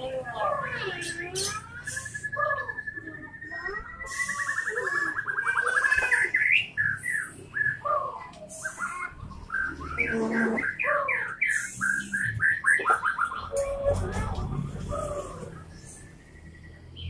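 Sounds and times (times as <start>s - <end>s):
bird singing trills and whistles: 0.0s - 14.2s.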